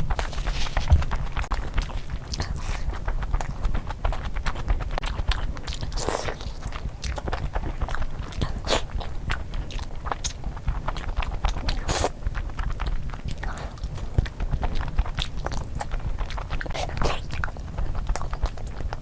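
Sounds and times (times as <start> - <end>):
steady low rumble: 0.0 - 19.0
wet chewing and mouth clicks: 0.0 - 19.0.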